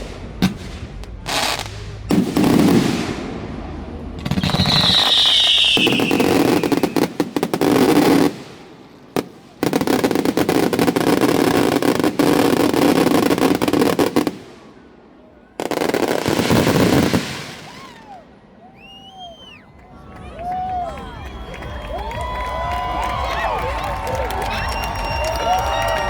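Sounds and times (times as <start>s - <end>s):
fireworks bangs and crackling: 0.0s - 18.2s, 20.6s - 26.0s.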